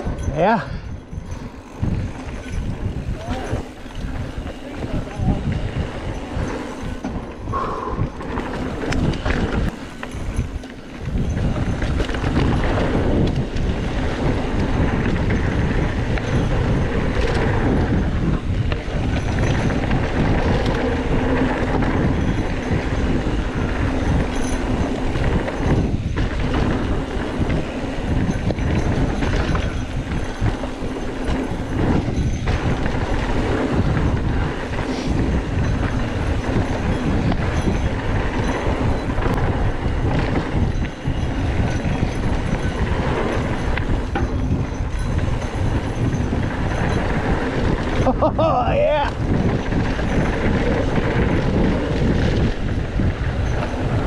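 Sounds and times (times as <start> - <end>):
mountain bike rattling over rough ground: 0.0 - 54.0.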